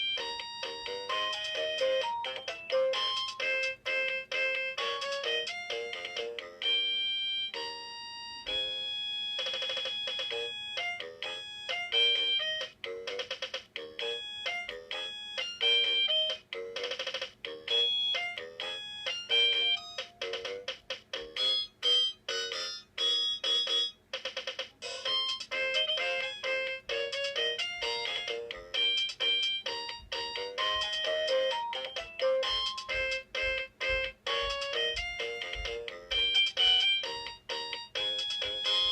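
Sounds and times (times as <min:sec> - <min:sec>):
toy keyboard electronic melody: 0:00.0 - 0:38.9.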